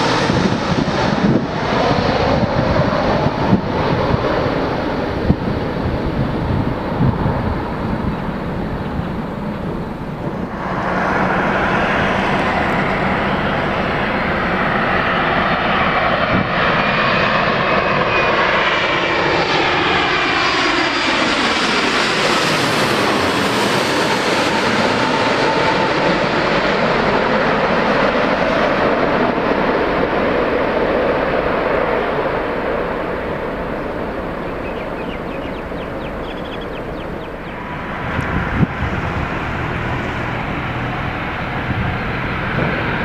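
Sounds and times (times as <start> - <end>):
jet airliner flying over: 0.0 - 43.0.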